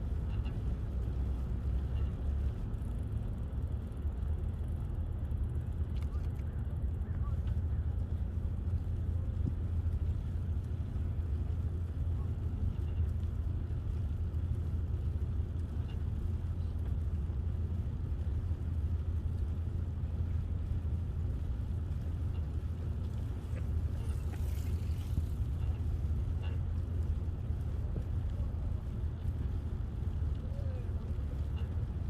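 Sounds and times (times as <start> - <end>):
wind buffeting the microphone: 0.0 - 32.0.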